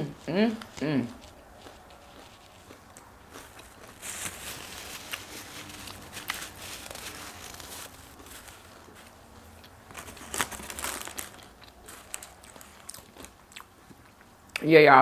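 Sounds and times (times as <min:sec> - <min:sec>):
chewing crunchy food: 0:00.5 - 0:14.6.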